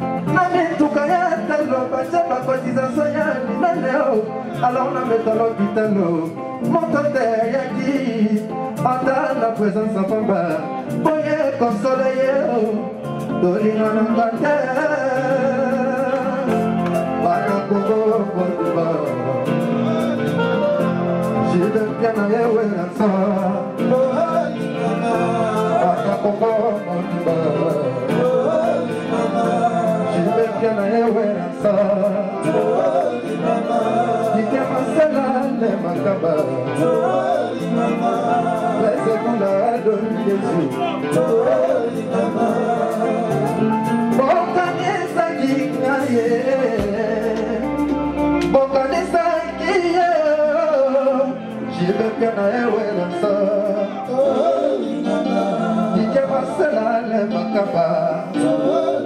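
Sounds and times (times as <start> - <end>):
live band with guitar and drums: 0.0 - 59.0
man singing into microphone: 0.0 - 59.0.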